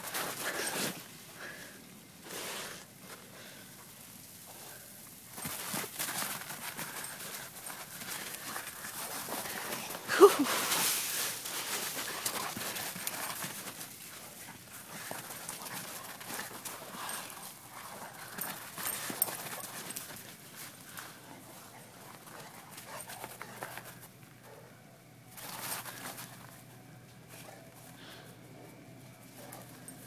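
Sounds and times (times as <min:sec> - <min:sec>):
paws crunching over snow: 0:04.5 - 0:30.0.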